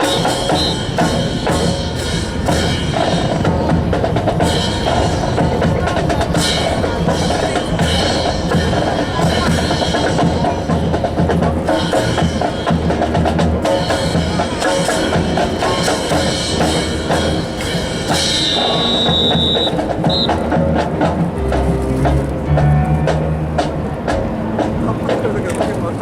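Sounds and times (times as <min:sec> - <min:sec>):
drum-heavy music: 0:00.0 - 0:26.0.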